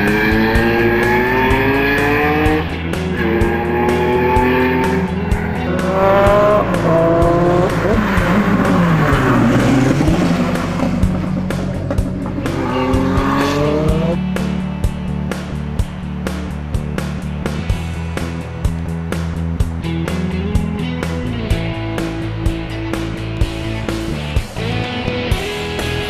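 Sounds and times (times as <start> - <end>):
rally car engine accelerating: 0.0 - 25.1.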